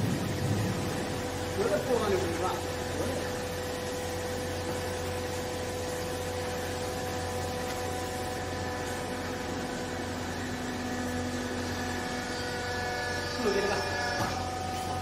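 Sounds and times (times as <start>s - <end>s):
hydraulic baler humming: 0.0s - 15.0s
lower machine tone: 0.0s - 15.0s.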